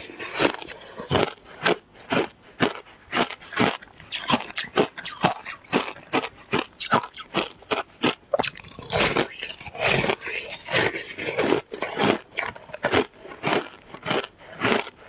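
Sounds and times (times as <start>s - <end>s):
person crunching shaved ice: 0.0s - 15.0s.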